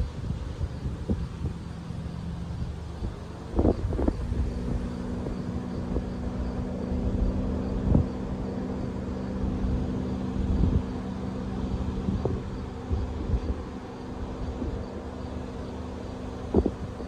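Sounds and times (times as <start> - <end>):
low engine-like hum: 0.0 - 17.0
wind rumbling on microphone: 0.0 - 17.0.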